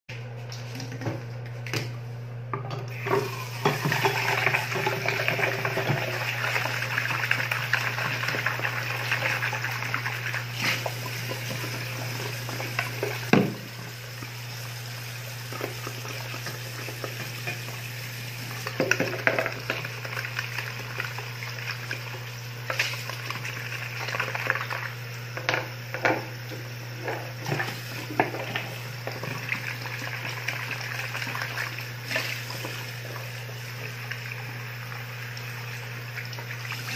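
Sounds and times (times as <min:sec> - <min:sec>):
tap water running: 0:02.6 - 0:36.9.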